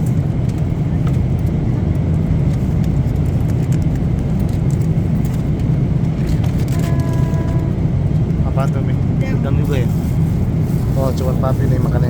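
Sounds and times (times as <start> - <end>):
airliner cabin drone: 0.0 - 12.0.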